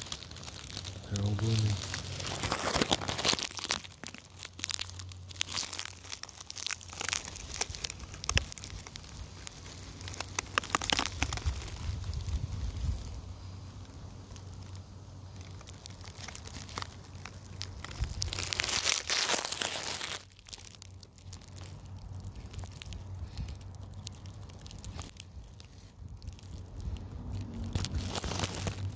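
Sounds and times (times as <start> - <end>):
dry leaves crackling and rustling: 0.0 - 28.9.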